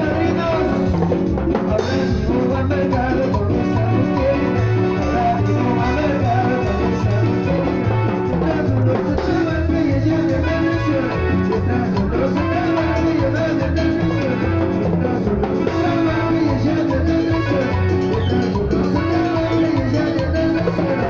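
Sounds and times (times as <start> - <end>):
live band playing dance music: 0.0 - 21.0.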